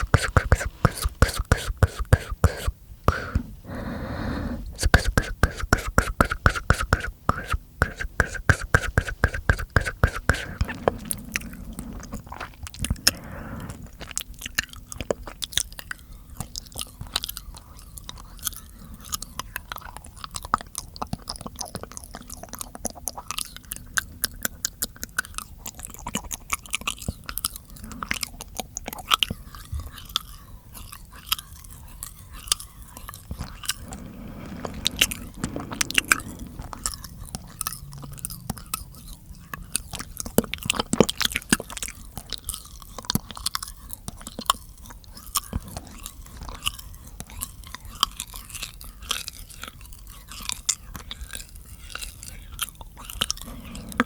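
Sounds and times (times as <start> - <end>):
wet mouth clicks and smacks: 0.0 - 3.4, 4.8 - 13.2, 14.0 - 48.6.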